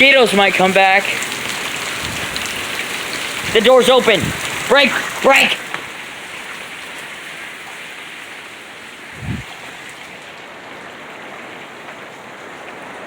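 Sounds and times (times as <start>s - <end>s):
rain pattering on surfaces: 0.0s - 13.0s.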